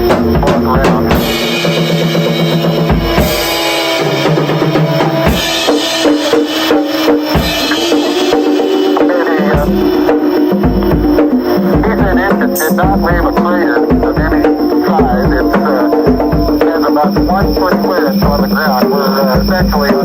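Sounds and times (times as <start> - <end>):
held steady tones: 0.0 - 20.0.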